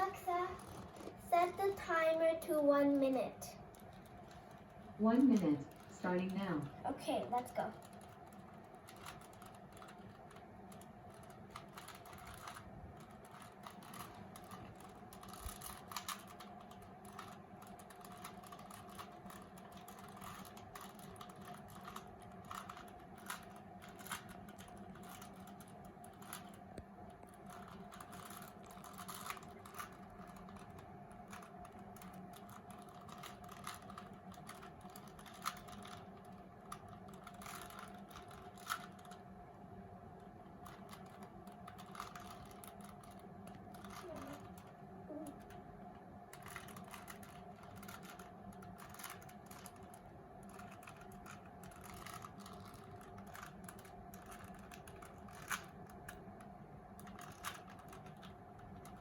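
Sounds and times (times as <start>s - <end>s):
plastic cube clicks and clacks: 0.0s - 39.4s, 40.2s - 59.0s
steady low hum: 0.0s - 59.0s.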